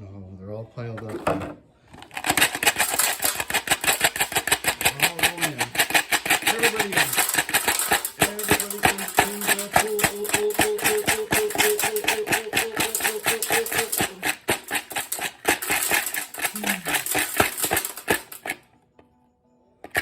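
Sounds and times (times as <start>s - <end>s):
background music: 0.0s - 20.0s
metal tank rattling: 1.0s - 18.6s.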